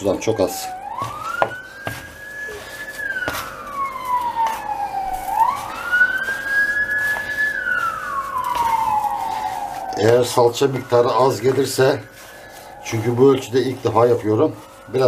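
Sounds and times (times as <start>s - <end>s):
emergency siren wailing: 0.0s - 15.0s
hands mixing grain in metal tray: 0.0s - 15.0s.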